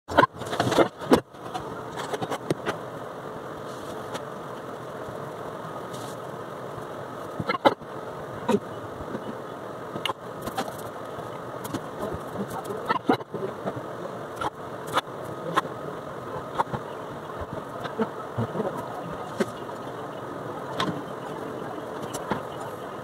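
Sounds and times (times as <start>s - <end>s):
steady background hum: 0.1s - 23.0s.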